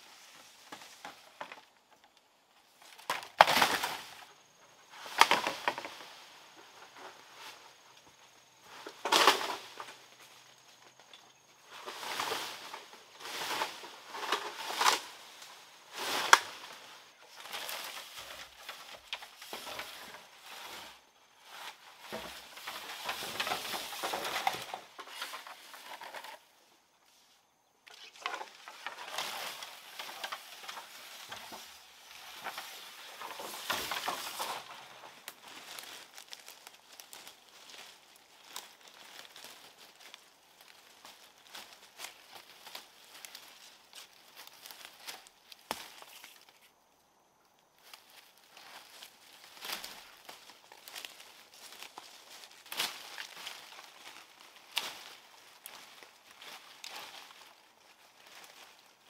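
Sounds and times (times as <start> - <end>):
bamboo poles scraping: 0.0 - 46.8, 47.8 - 59.0
rustling leaves: 0.0 - 59.0.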